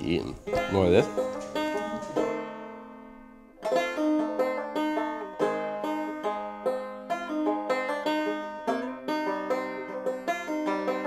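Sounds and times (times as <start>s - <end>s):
banjo-like plucked melody: 0.0s - 11.0s.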